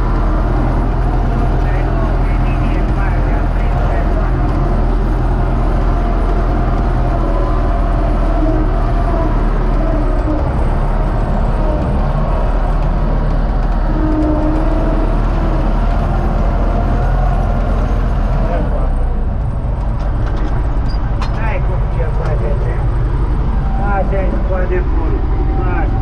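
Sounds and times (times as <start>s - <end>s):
tractor diesel engine droning: 0.0s - 26.0s.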